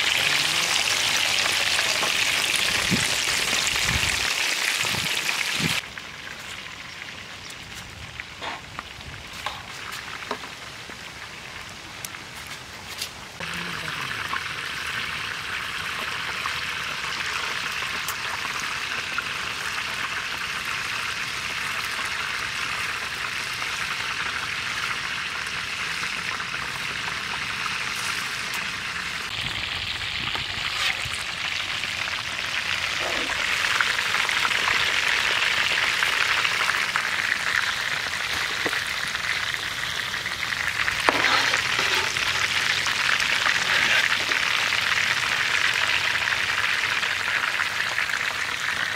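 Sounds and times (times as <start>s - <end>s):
chicken sizzling in hot oil: 0.0s - 12.2s, 13.4s - 48.9s.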